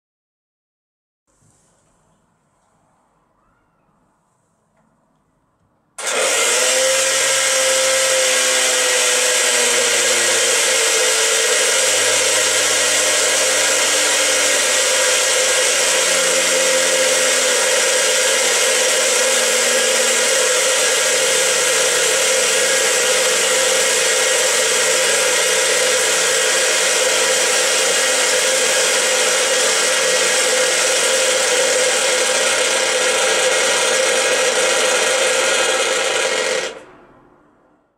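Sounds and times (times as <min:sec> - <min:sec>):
clockwork motor whirring: 0:06.0 - 0:36.8.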